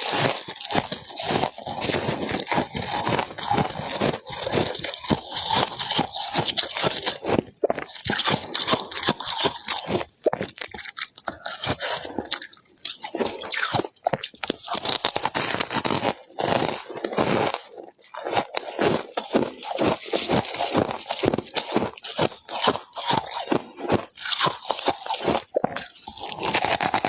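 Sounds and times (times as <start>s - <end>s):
crunching and chewing ice: 0.0s - 27.0s.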